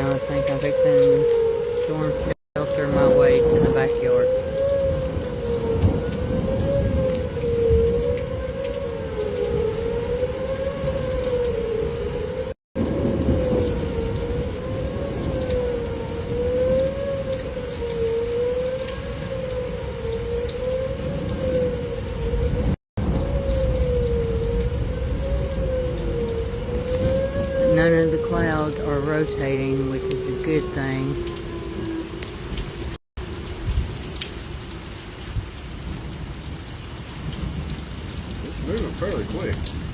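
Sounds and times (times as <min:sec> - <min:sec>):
rain hissing: 0:00.0 - 0:39.9
wavering warning siren: 0:00.0 - 0:39.9.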